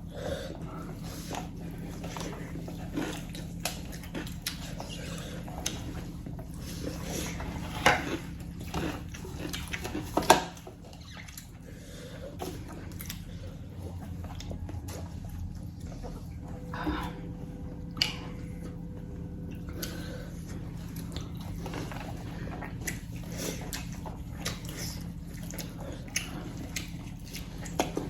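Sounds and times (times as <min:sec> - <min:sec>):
wet chewing and lip smacks: 0:00.9 - 0:16.6, 0:17.8 - 0:28.0.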